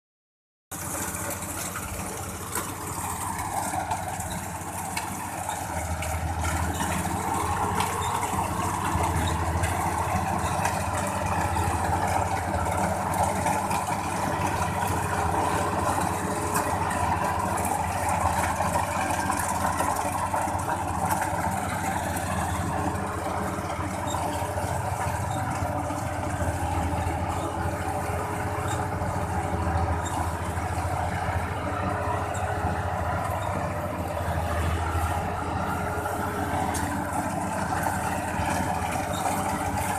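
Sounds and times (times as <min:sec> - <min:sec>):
combine harvester engine running: 0:00.7 - 0:39.9.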